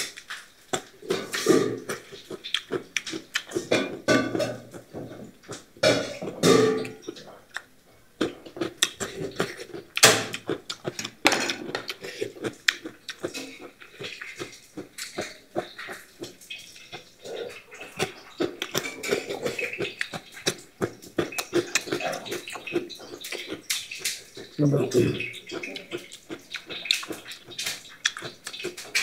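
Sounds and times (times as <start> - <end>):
crunchy chewing of radish: 0.0 - 29.0
wet mouth sounds: 0.0 - 29.0
dishes clinking: 0.8 - 2.2, 3.0 - 7.3, 9.1 - 12.0, 13.2 - 29.0.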